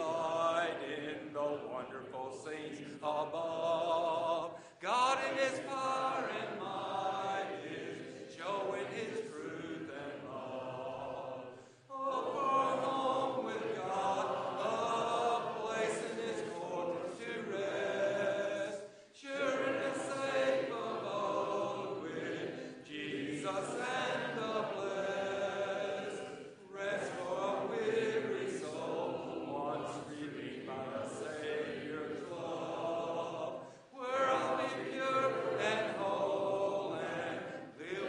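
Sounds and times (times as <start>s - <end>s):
congregation singing a hymn: 0.0s - 38.0s.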